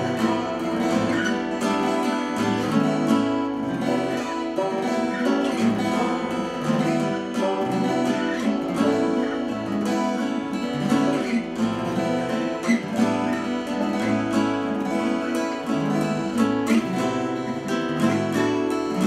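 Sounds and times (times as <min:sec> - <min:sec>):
acoustic guitars strumming and picking: 0:00.0 - 0:19.0.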